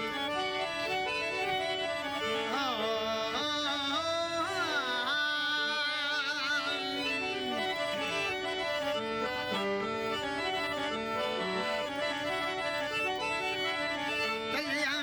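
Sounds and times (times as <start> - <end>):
harmonium playing held notes: 0.0 - 15.0.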